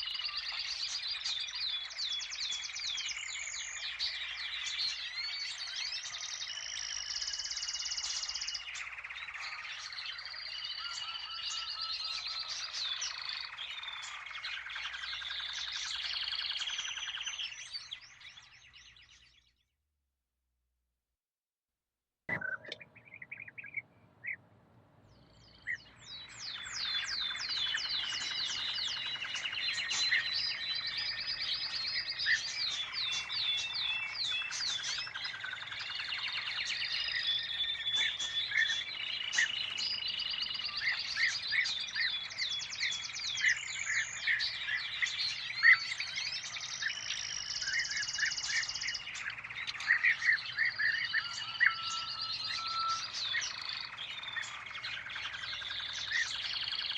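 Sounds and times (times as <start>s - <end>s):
songbirds singing in chorus: 0.0s - 19.7s, 22.3s - 56.9s.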